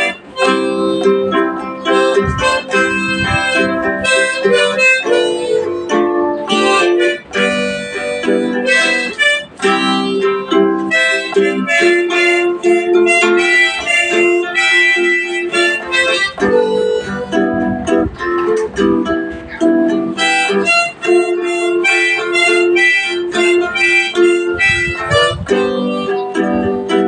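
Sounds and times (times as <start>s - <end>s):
guitar accompaniment: 0.0s - 27.0s
harmonica melody: 0.0s - 27.0s.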